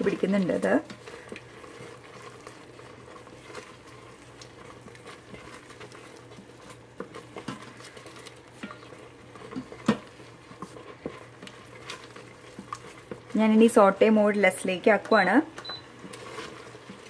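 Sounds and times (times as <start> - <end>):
thick paste bubbling and popping: 0.0 - 13.7
wooden spatula scraping pot: 0.0 - 17.0.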